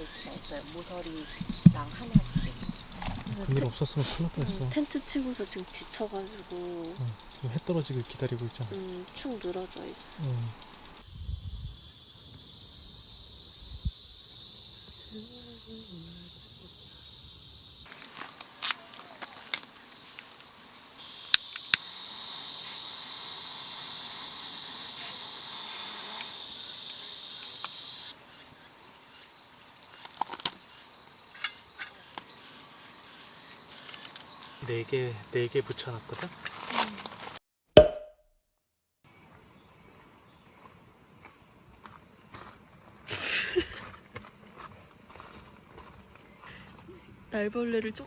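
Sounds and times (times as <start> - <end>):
insects chirring: 0.0 - 37.4, 39.1 - 48.0.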